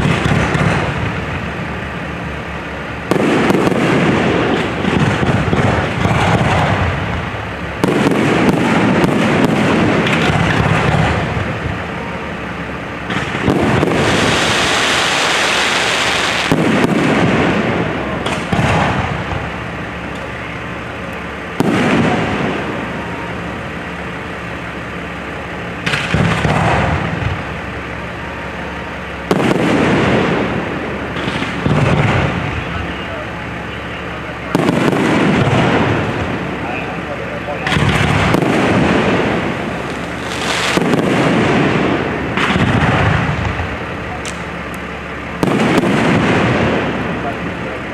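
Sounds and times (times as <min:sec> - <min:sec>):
firework crackle: 0:00.0 - 0:47.9
firework shells booming: 0:00.0 - 0:47.9.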